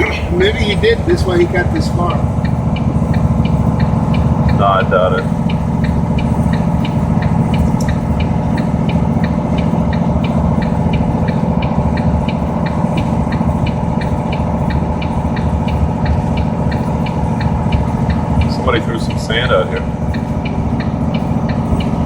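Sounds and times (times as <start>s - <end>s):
light regular ticking: 0.0s - 22.0s
vehicle engine and road hum: 0.0s - 22.0s.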